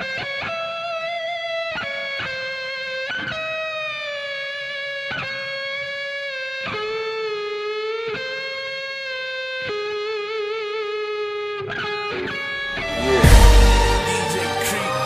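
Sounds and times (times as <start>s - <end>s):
electric guitar slow melody: 0.0s - 15.0s.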